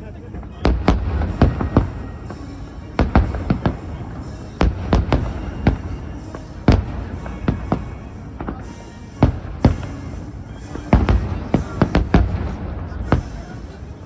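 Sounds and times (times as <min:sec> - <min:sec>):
fireworks booming: 0:00.3 - 0:14.0.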